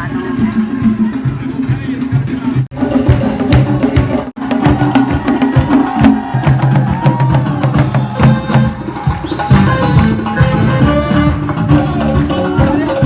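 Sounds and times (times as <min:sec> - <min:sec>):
upbeat music with hand drums: 0:00.0 - 0:13.0.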